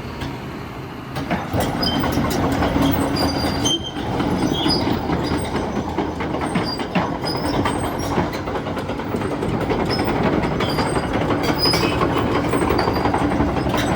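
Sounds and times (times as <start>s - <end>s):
excavator engine running: 0.1s - 13.9s.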